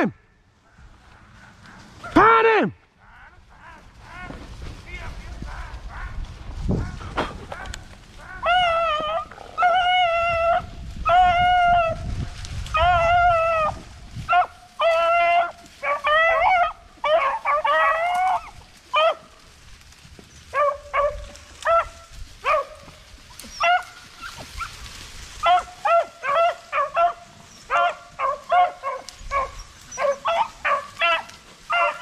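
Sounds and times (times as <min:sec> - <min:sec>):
hounds baying: 0:00.0 - 0:04.5, 0:05.1 - 0:12.1, 0:12.7 - 0:19.5, 0:20.4 - 0:32.0
dogs barking: 0:00.6 - 0:02.3, 0:05.4 - 0:12.0, 0:12.8 - 0:19.4, 0:20.5 - 0:24.8, 0:25.4 - 0:32.0.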